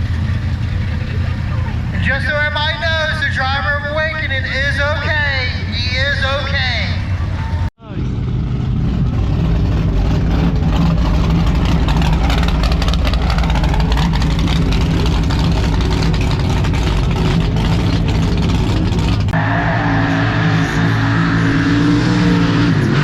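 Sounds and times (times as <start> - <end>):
truck engines running loud: 0.0 - 23.0.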